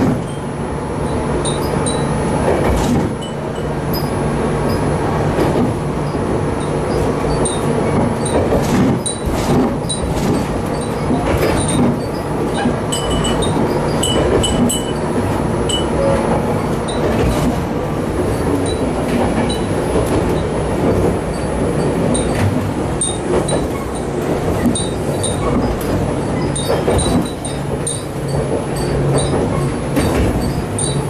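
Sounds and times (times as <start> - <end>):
diesel railcar rumble: 0.0 - 31.0.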